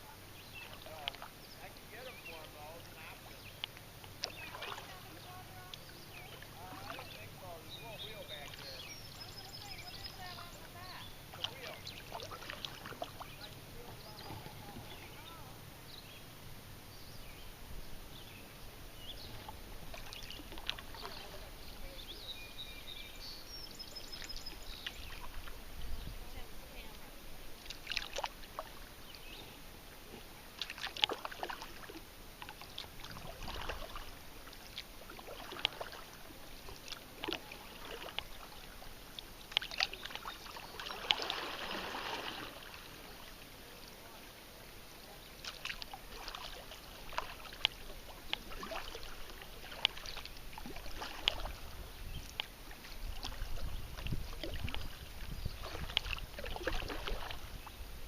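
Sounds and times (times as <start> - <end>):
water washing: 0.0 - 15.6, 18.8 - 22.3, 24.0 - 57.8
kayak paddle splashing water: 0.0 - 16.6, 17.2 - 58.0.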